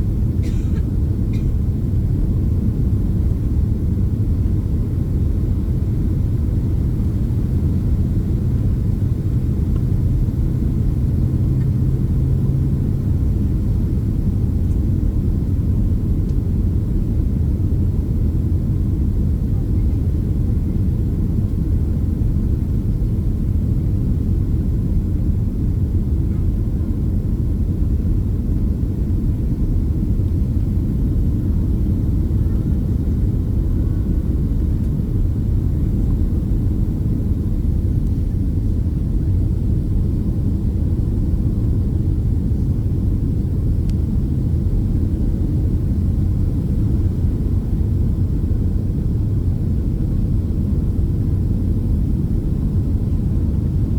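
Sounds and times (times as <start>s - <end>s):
airplane cabin engine rumble: 0.0s - 53.9s.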